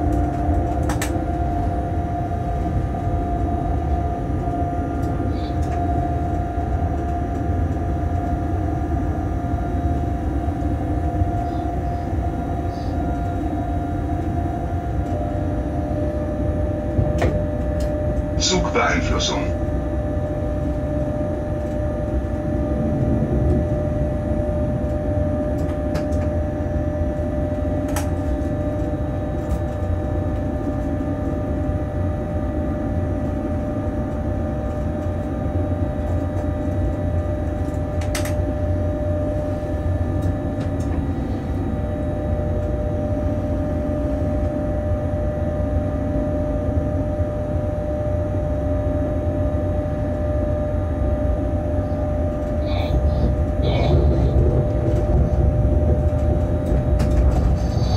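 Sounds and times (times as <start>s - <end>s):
locomotive cab rumble and hum: 0.0s - 57.9s.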